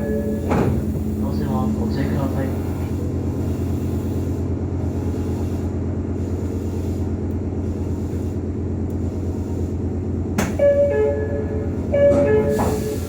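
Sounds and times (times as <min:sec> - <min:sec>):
low mechanical hum in train car: 0:00.0 - 0:13.0.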